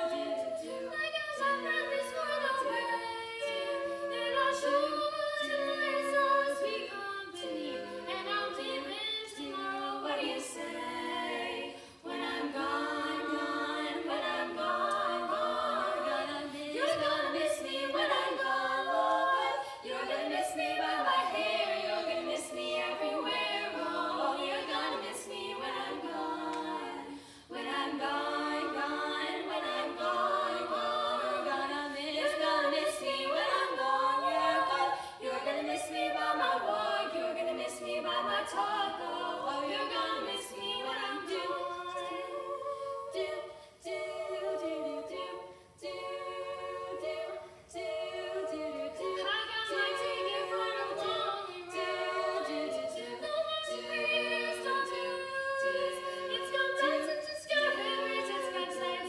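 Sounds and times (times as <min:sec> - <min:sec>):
female vocal quartet singing: 0:00.0 - 0:59.0.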